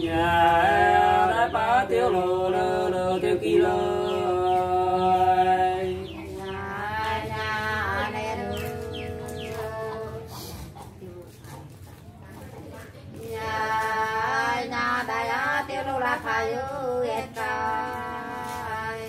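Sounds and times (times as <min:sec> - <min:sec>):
unaccompanied folk singing: 0:00.0 - 0:19.0.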